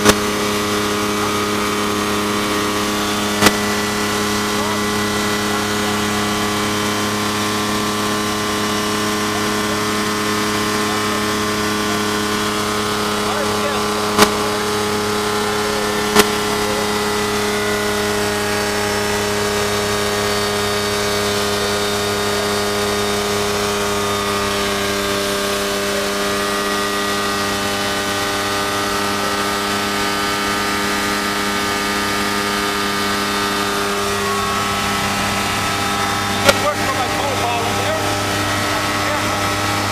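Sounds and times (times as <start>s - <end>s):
airplane engine and propeller: 0.0s - 39.9s.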